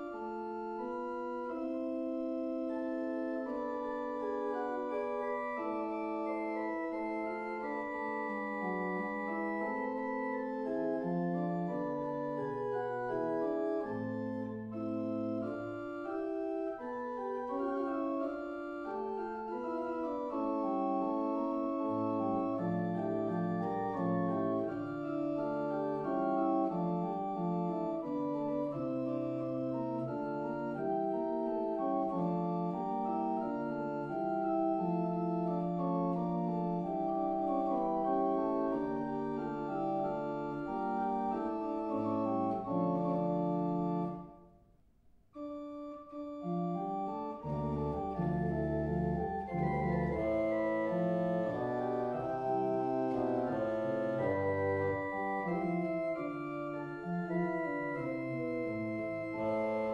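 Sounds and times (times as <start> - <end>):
deep organ pedal bass: 0.0 - 44.3, 45.4 - 59.9
pipe organ chords: 0.0 - 44.5, 45.4 - 59.9.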